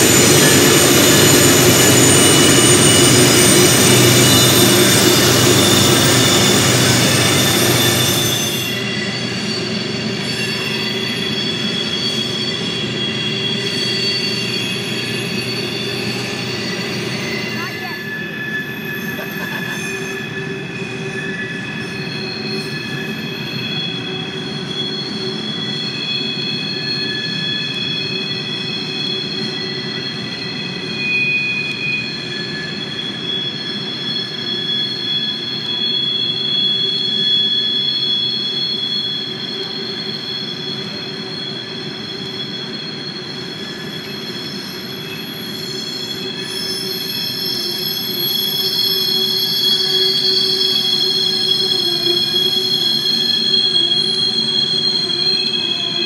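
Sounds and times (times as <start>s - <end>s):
train wheels squealing on rails: 0.0s - 56.0s.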